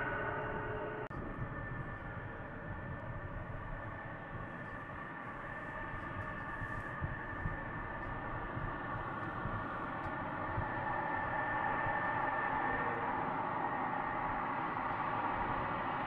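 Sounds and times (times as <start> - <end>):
low rumble: 0.0 - 15.7
jet engines whining: 0.0 - 16.0.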